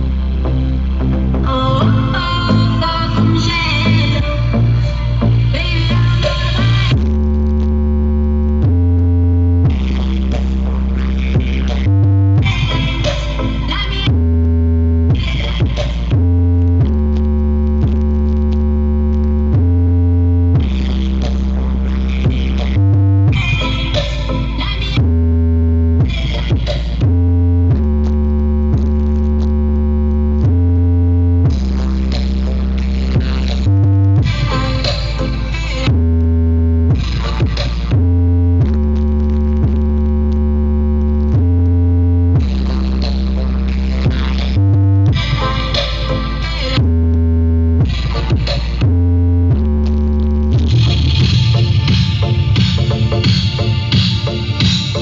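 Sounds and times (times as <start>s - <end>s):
deep synth bass notes: 0.0s - 55.0s.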